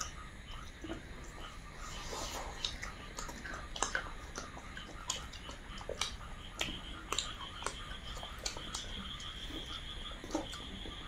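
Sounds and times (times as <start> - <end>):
chewing and lip-smacking: 0.0 - 11.0.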